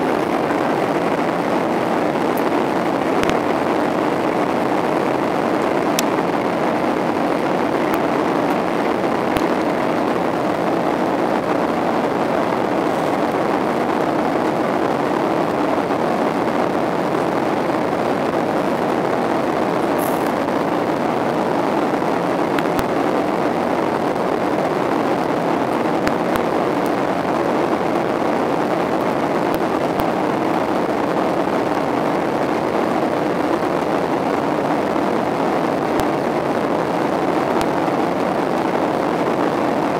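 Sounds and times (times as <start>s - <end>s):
airliner cabin engine rush: 0.0s - 39.0s.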